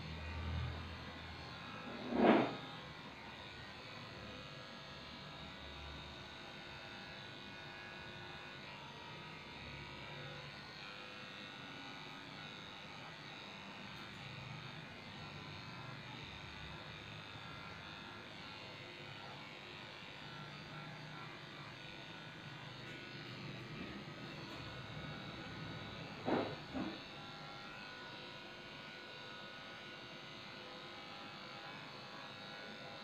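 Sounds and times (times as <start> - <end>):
electric clippers buzzing: 0.0 - 33.0.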